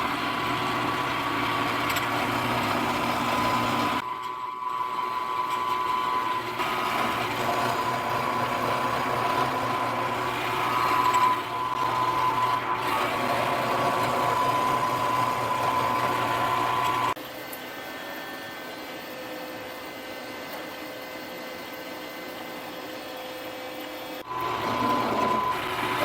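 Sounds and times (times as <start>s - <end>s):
milling machine whine: 0.0s - 26.0s.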